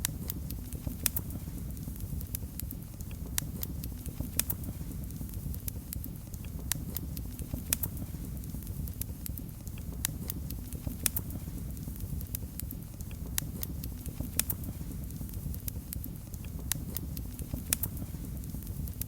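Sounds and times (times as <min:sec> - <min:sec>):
flames rumbling: 0:00.0 - 0:19.0
wood fire popping: 0:00.0 - 0:19.0.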